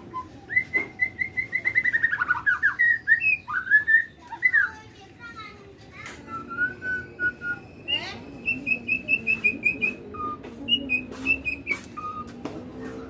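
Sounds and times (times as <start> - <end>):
songbird whistling: 0.0 - 4.8, 6.2 - 13.0.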